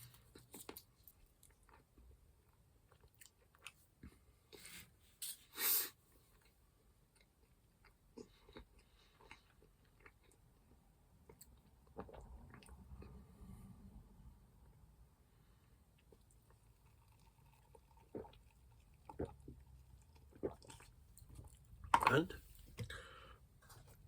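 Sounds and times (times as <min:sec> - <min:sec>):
person chewing chocolate: 0:00.0 - 0:04.6, 0:06.3 - 0:13.2, 0:16.0 - 0:24.0.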